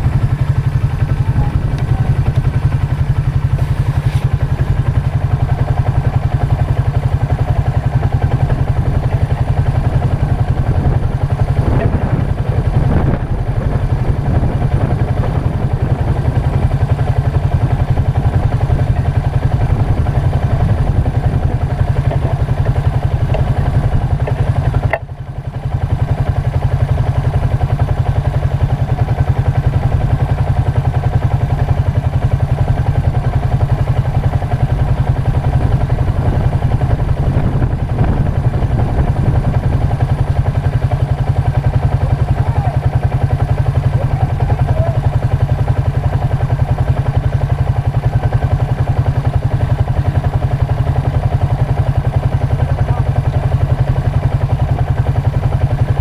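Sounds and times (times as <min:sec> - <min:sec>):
quad engine running: 0:00.0 - 0:56.0.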